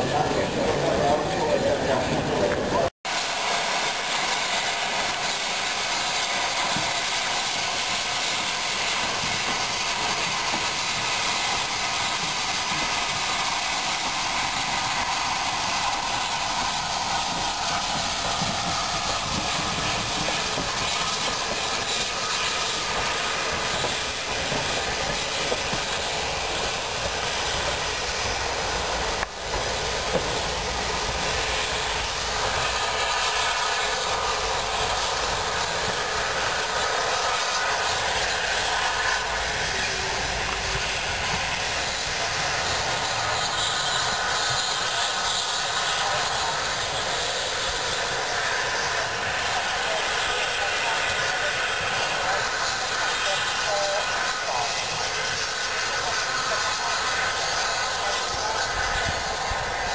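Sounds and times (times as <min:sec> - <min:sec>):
steam hissing from locomotive: 0:00.0 - 0:59.9.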